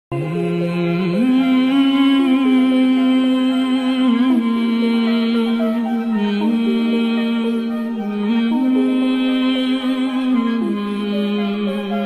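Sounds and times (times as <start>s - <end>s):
hummed vocal melody: 0.1s - 12.0s.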